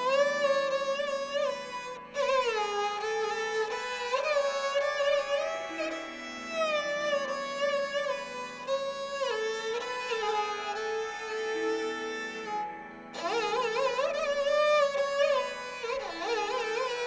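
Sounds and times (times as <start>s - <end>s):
bowed string melody: 0.0s - 17.0s.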